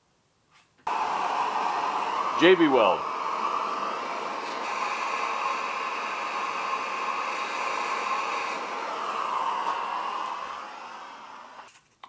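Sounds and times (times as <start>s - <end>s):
torch flame hissing: 0.9s - 11.7s.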